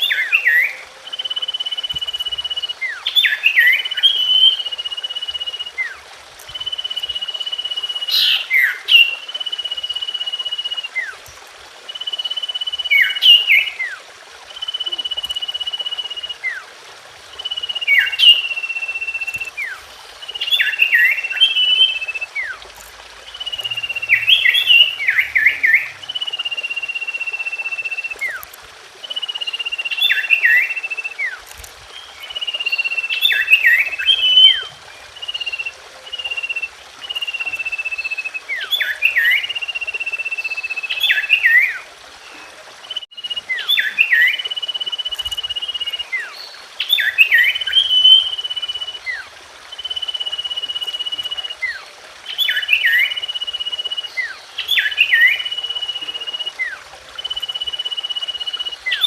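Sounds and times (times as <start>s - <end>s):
bird whistling song: 0.0s - 11.3s, 11.9s - 16.7s, 17.3s - 59.0s
faint steady hiss: 0.0s - 59.0s.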